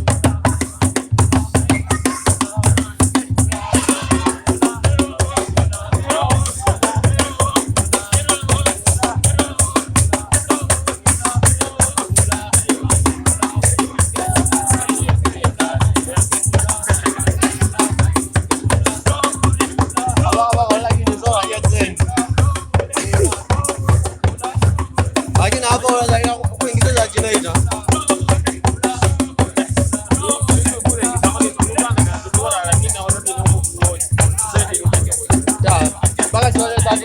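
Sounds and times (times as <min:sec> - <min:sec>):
fast drum beat: 0:00.0 - 0:37.0
shaker: 0:00.0 - 0:37.0
voices singing: 0:00.0 - 0:37.0.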